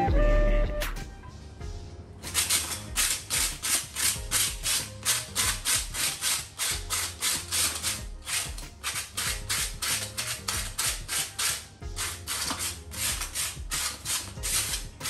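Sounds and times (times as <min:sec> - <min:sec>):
abrasive pad scrubbing concrete: 0:02.3 - 0:15.0.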